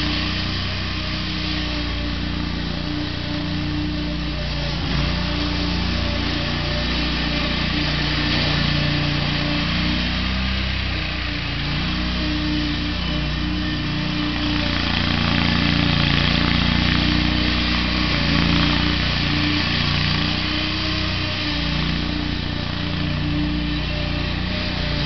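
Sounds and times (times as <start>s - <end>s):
mower engine running: 0.0s - 25.0s.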